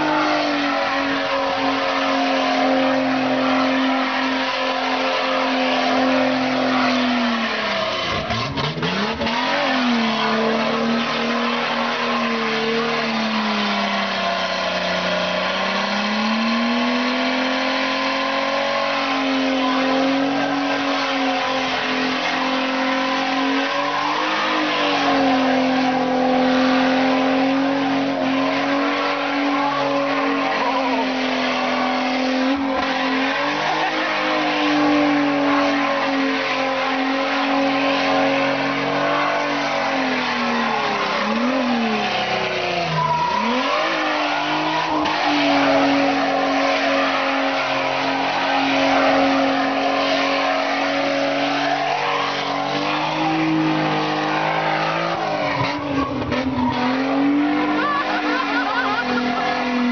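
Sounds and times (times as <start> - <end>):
car engine at high revs: 0.0 - 59.9
tyres squealing: 0.0 - 59.9.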